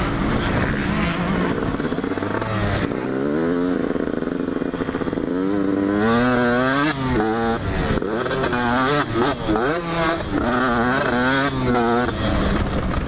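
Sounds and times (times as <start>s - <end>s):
motocross bike engine accelerating: 0.0s - 13.0s.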